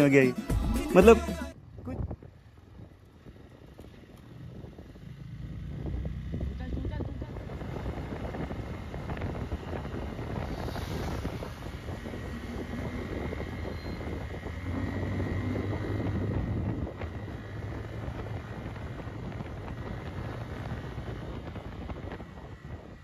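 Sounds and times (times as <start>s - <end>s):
wind noise on microphone: 1.5s - 23.0s
motorcycle engine running: 1.6s - 23.0s.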